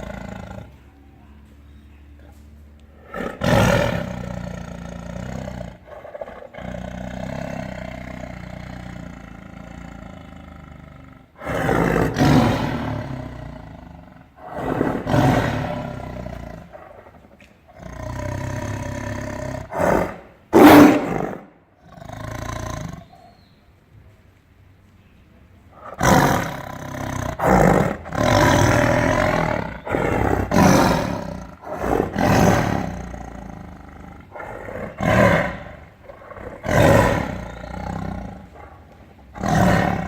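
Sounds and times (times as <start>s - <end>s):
tiger roaring: 0.0s - 0.9s, 2.8s - 23.2s, 25.7s - 40.0s
low rumbling growls: 0.0s - 23.1s, 25.7s - 40.0s.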